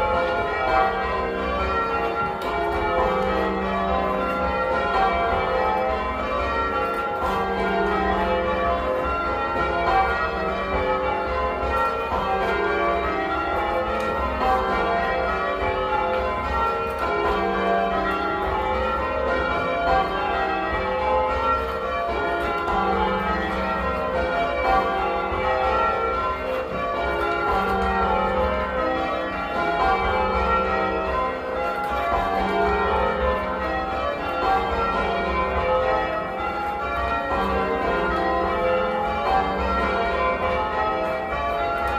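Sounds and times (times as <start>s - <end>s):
church bells change ringing: 0.0s - 41.9s.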